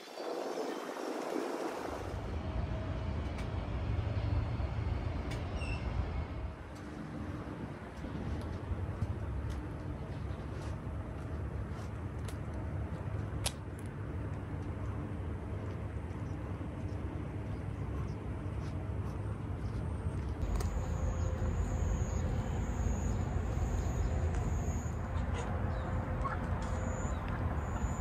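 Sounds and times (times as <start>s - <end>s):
steady low rumble: 2.0s - 28.0s.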